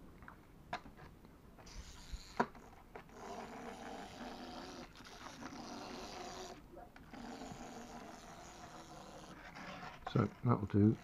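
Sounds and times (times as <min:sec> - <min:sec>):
clockwork toy motor whirring: 0:01.6 - 0:11.0.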